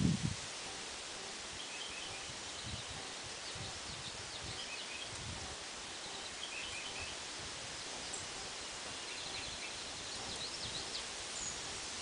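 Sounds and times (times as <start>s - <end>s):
outdoor hiss: 0.0s - 12.0s
songbirds chirping: 0.0s - 12.0s.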